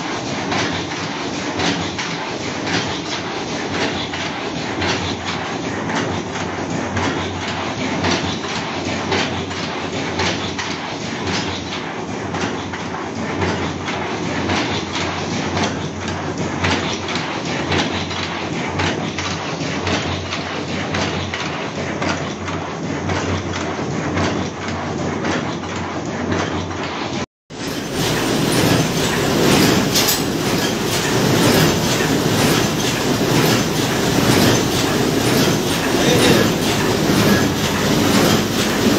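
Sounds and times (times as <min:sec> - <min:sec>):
machine clattering with rapid clicks: 0:00.0 - 0:38.9.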